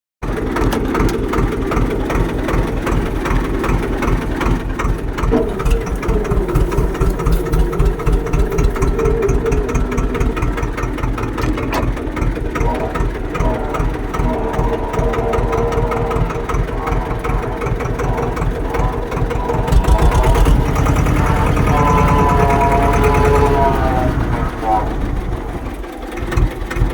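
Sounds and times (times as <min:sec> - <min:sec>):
tractor engine running: 0:00.2 - 0:26.9.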